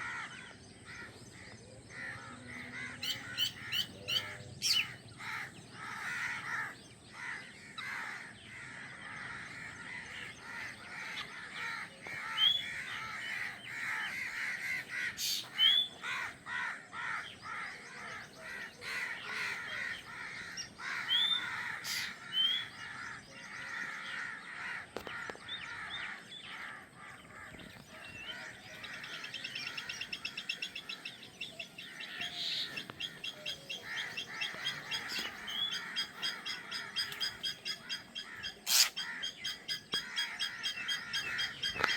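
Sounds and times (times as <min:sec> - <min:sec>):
bird chicks chattering and chirping: 0:00.0 - 0:41.9.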